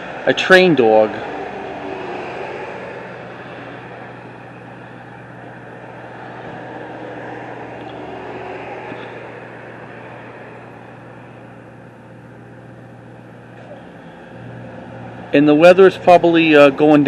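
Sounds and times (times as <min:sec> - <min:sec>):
traffic noise: 0:00.0 - 0:17.0
vehicle passing by: 0:00.0 - 0:17.0.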